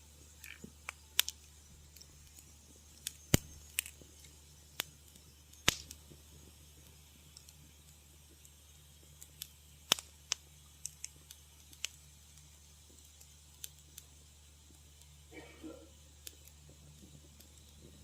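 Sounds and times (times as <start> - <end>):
faint low hum: 0.0 - 18.0
wood fire pops and snaps: 0.0 - 18.0.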